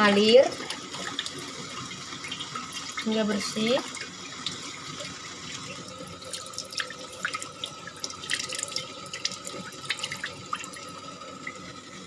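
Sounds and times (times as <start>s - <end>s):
water splashes and drips: 0.0s - 11.6s
tap water running: 0.0s - 12.0s.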